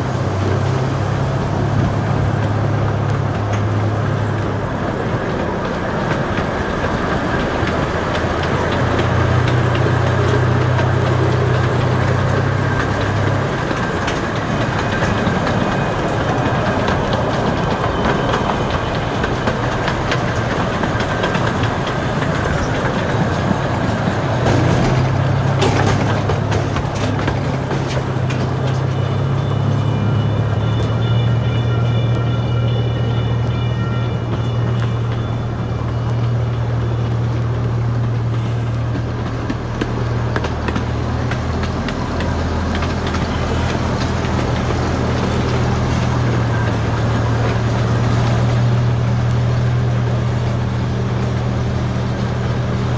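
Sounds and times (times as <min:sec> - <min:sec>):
cars rattling on rails: 0:00.0 - 0:52.9
train engine hum: 0:00.0 - 0:52.9.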